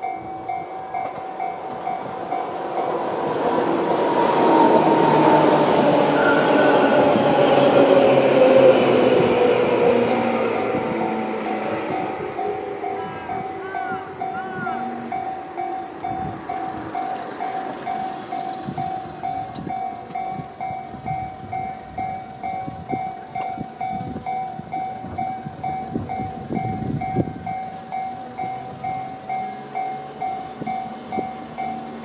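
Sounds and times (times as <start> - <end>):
level-crossing alarm bell ringing: 0.0 - 10.0, 10.6 - 32.0.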